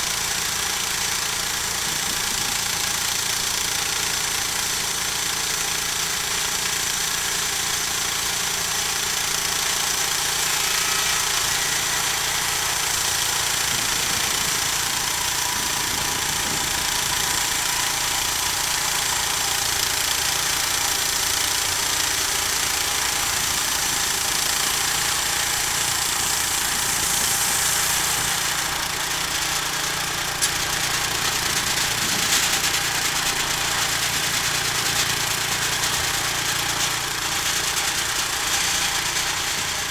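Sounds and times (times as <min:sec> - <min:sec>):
sawmill cutting a log: 0:00.0 - 0:39.9
engine drone: 0:05.5 - 0:39.9.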